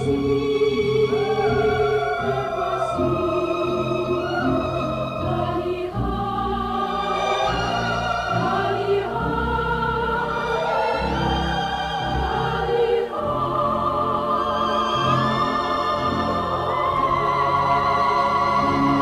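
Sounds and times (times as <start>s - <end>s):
choir singing held notes: 0.0s - 19.0s
orchestral film music: 0.0s - 19.0s.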